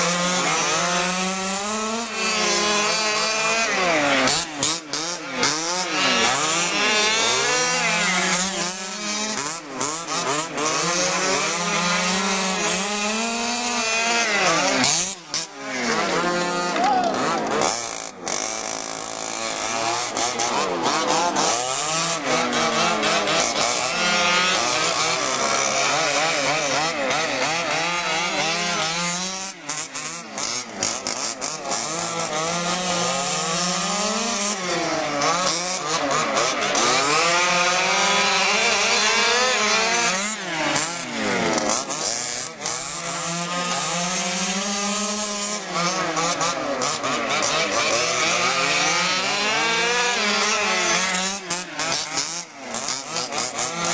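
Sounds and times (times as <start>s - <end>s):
small two-stroke engines buzzing: 0.0s - 53.9s.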